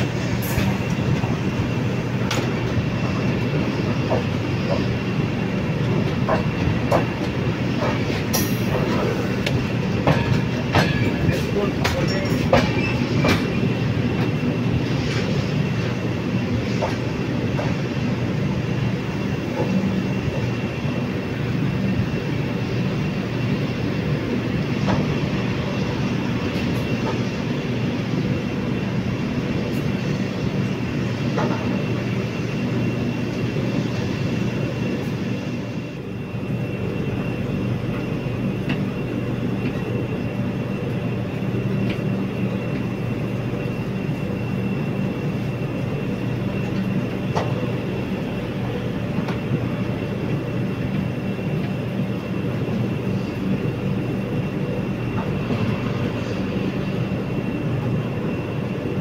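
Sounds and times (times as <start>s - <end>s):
train coach rolling rumble: 0.0s - 59.0s.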